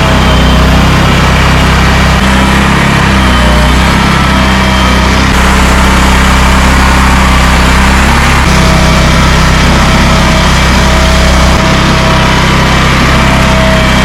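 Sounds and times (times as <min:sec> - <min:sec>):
gasoline engine running: 0:00.0 - 0:14.0.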